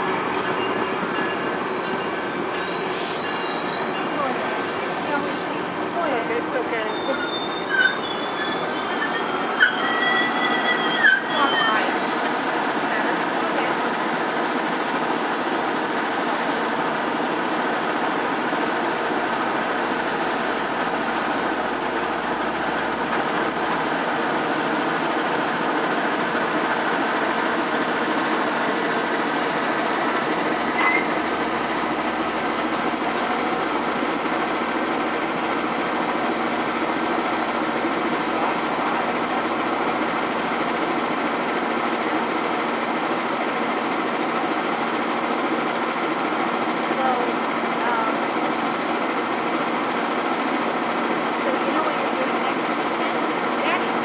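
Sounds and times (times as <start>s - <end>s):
train machinery drone: 0.0s - 54.0s.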